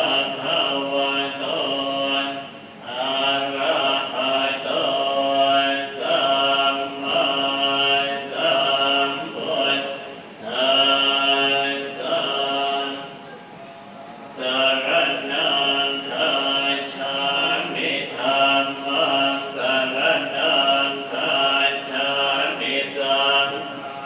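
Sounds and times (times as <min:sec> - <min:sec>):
children chanting in unison: 0:00.0 - 0:13.2, 0:14.4 - 0:24.0.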